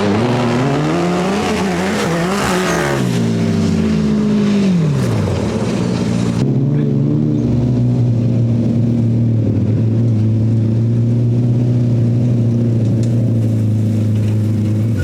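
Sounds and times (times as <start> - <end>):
buggy engine humming: 0.0 - 15.0.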